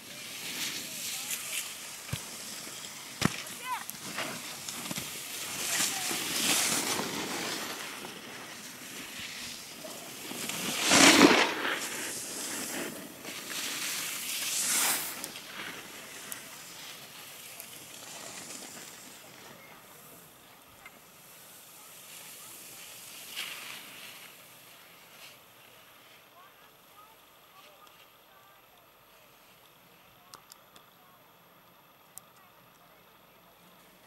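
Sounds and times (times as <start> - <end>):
skis scraping over packed snow: 0.0 - 30.3.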